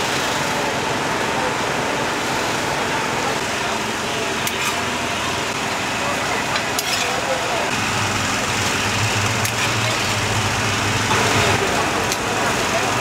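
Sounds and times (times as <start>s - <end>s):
busy night market din: 0.0s - 13.0s.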